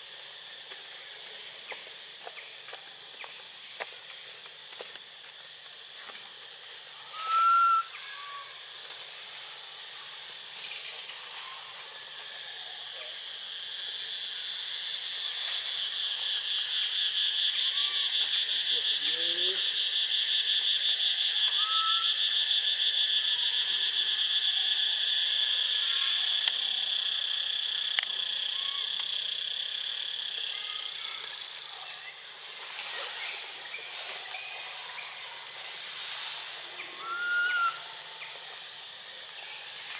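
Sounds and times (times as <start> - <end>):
insect chirps: 0.0 - 39.9
insects buzzing: 0.0 - 39.9.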